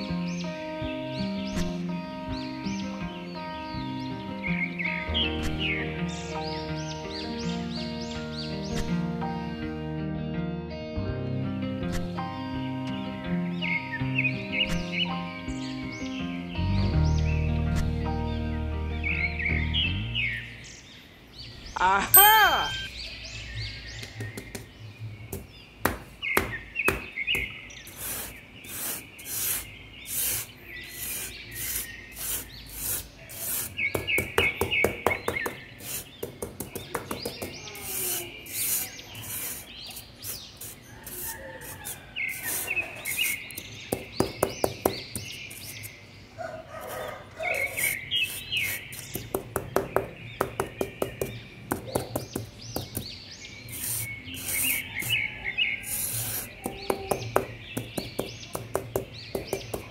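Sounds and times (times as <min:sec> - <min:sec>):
birds chirping: 0:00.0 - 0:09.6, 0:12.1 - 0:59.9.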